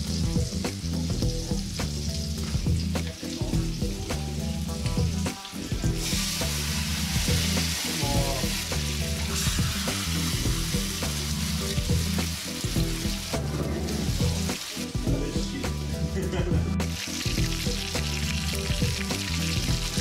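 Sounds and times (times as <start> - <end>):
chicken wings frying in oil: 0.0 - 20.0
music with heavy bass: 0.0 - 20.0.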